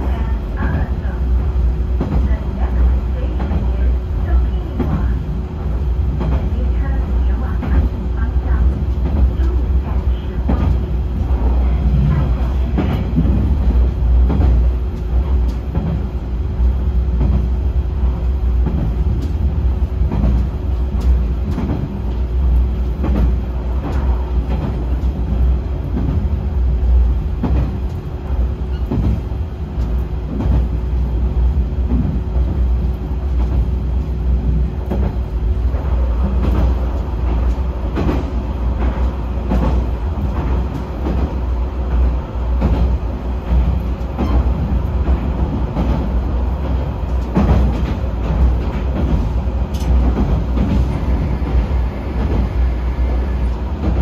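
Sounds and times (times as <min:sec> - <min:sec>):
railcar engine rumble: 0:00.0 - 0:54.0.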